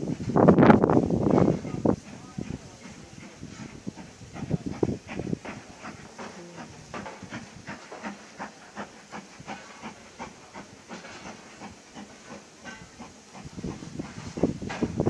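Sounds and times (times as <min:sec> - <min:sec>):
locomotive exhaust chuffs: 0:00.0 - 0:15.0
steam hissing: 0:00.0 - 0:15.0.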